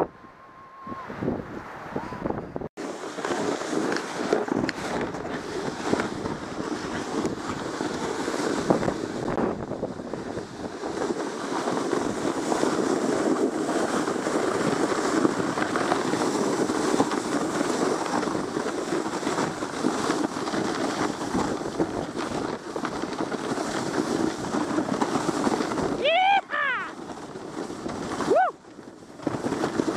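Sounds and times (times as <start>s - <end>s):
wind buffeting microphone: 0.0s - 29.9s
sled scraping on snow: 1.9s - 29.9s.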